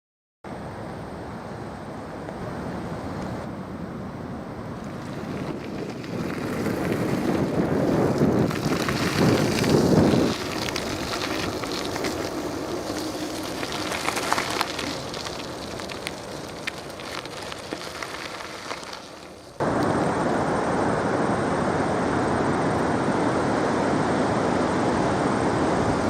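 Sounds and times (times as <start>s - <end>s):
wind rushing over microphone: 0.6s - 19.0s, 19.6s - 26.0s.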